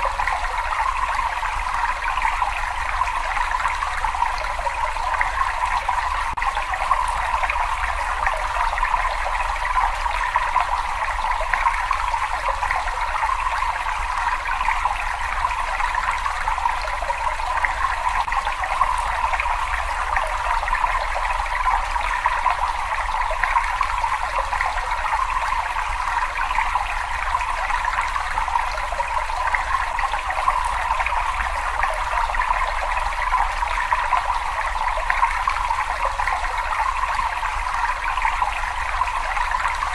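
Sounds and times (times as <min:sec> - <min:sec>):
water trickling and flowing: 0:00.0 - 0:39.9.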